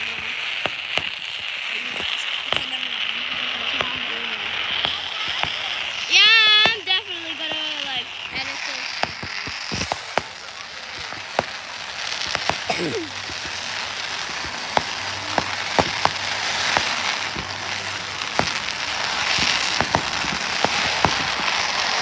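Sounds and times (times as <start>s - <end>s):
sharp pops: 0.0s - 2.8s, 4.6s - 22.0s
fireworks crackling: 0.0s - 22.0s.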